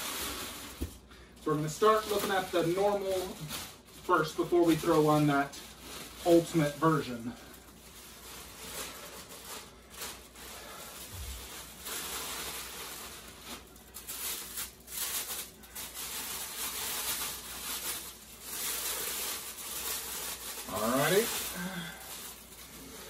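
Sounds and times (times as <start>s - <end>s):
plastic and foam wrap crinkling: 0.0s - 23.0s.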